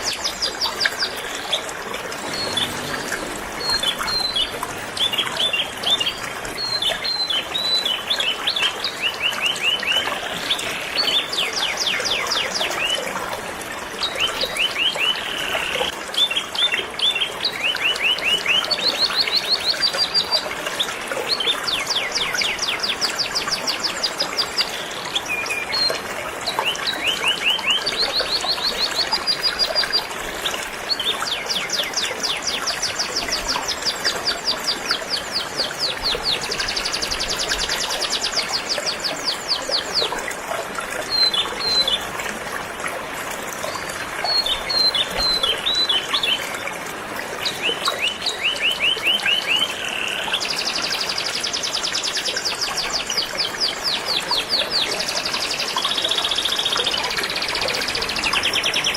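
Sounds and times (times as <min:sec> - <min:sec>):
flowing river water: 0:00.0 - 0:58.9.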